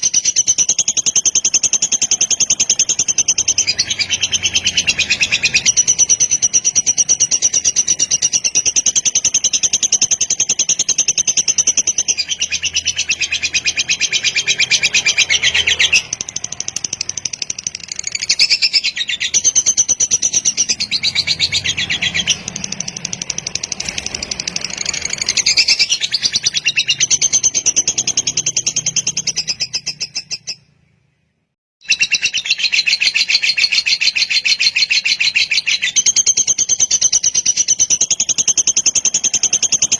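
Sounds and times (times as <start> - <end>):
bird chattering trill: 0.0 - 30.7, 31.8 - 39.9.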